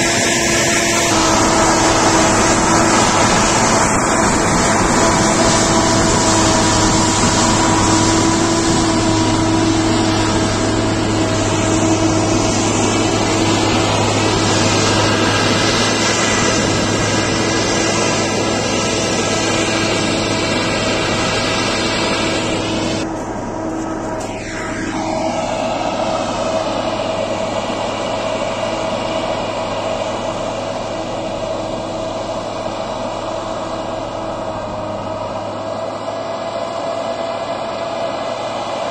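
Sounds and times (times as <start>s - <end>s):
heavy engine humming: 0.0s - 38.9s
loud rushing noise: 0.0s - 38.9s.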